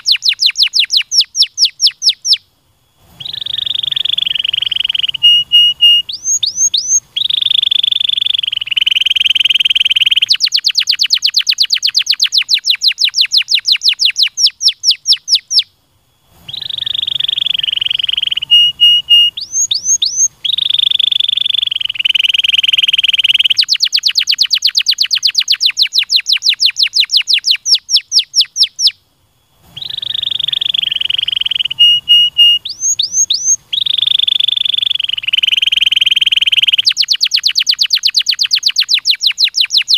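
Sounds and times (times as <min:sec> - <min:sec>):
canary singing: 0:00.0 - 0:02.5, 0:03.1 - 0:39.9.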